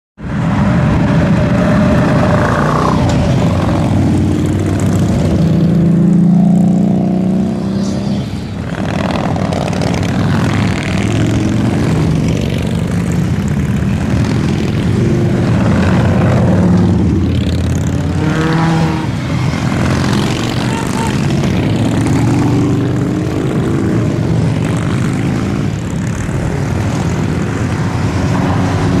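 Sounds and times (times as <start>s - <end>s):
motorcycle engine revving: 0.9s - 29.0s.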